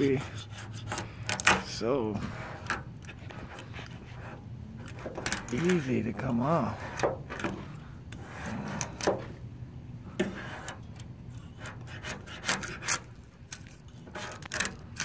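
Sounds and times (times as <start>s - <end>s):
paint scraping and crackling: 0.0s - 9.4s, 10.1s - 15.0s.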